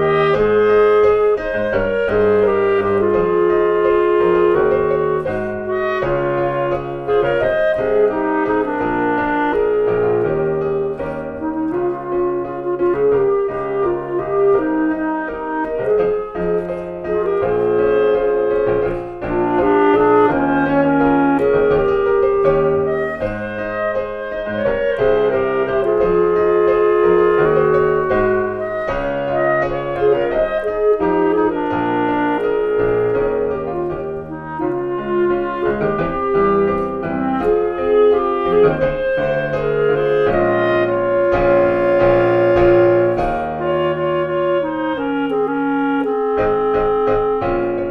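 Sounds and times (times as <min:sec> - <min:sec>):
clarinet melody: 0:00.0 - 0:47.9
piano chords: 0:00.0 - 0:47.9.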